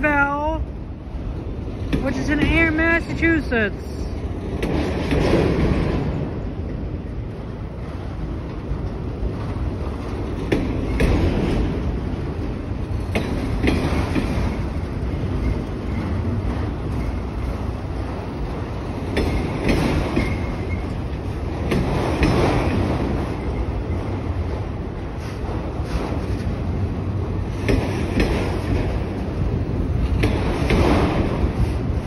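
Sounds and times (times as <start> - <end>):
train wheels rumbling on rail: 0.0 - 32.0
wheels clickety-clack on rail joints: 0.0 - 32.0.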